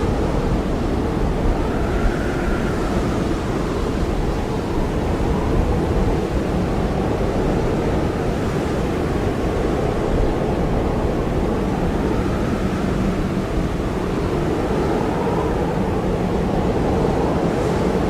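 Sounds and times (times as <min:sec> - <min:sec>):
blizzard wind howling: 0:00.0 - 0:18.0.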